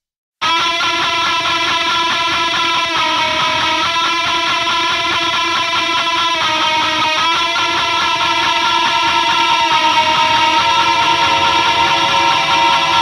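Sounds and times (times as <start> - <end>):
distorted electric guitar chords: 0.4 - 13.0.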